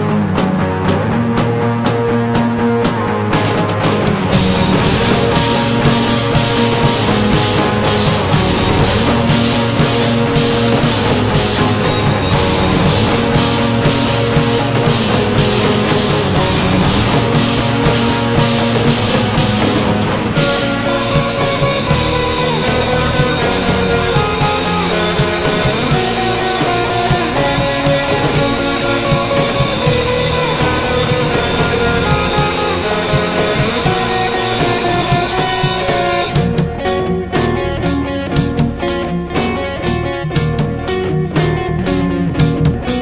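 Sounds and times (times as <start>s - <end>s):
rock band with guitars and drums: 0.0s - 43.0s
sharp rhythmic band hits: 3.4s - 43.0s.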